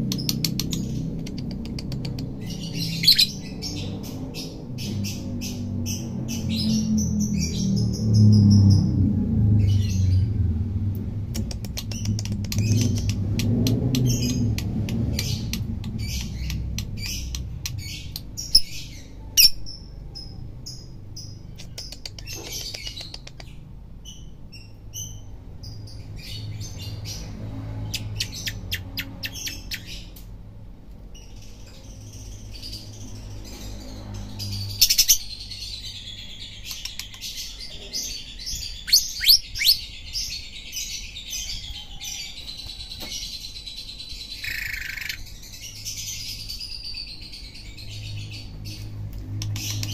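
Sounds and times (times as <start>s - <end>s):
lovebird chirping and trilling: 0.0s - 10.4s, 11.4s - 30.2s, 31.1s - 42.5s, 43.1s - 49.9s.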